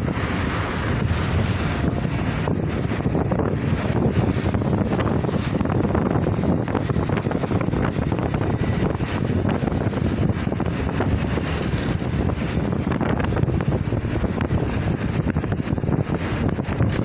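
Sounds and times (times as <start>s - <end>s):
road and traffic noise: 0.0s - 17.0s
wind buffeting microphone: 0.0s - 17.0s.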